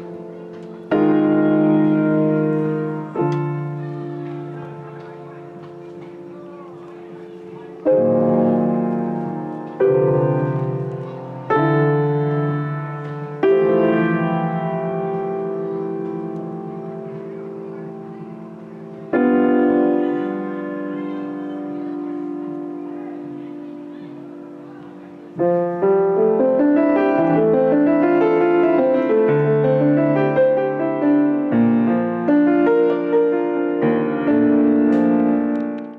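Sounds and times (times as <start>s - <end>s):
slow piano chords: 0.0s - 35.9s.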